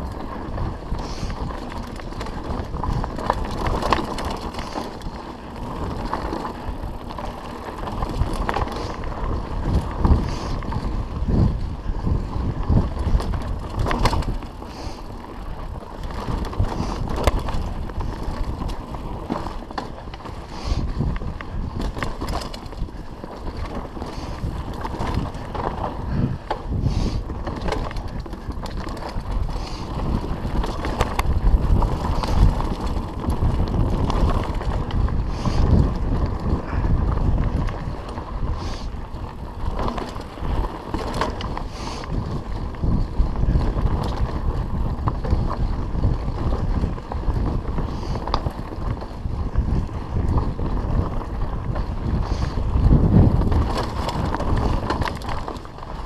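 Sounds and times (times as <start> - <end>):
bike rattling and knocking: 0.0 - 56.0
wind on microphone: 0.0 - 56.0.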